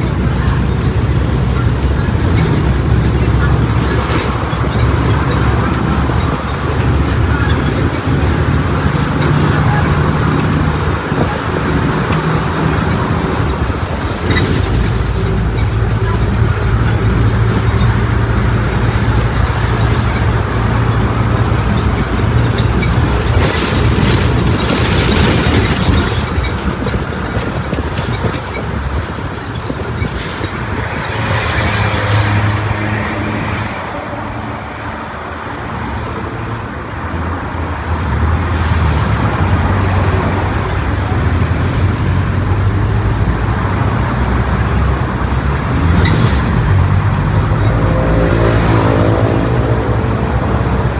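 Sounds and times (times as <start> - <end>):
bus diesel engine droning: 0.0 - 50.9.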